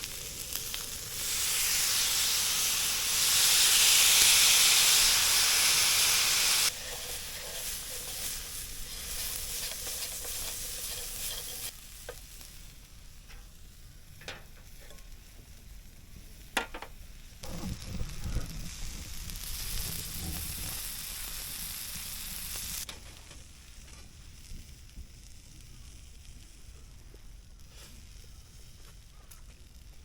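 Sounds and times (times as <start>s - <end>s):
noodles sizzling in a pan: 0.0s - 29.0s.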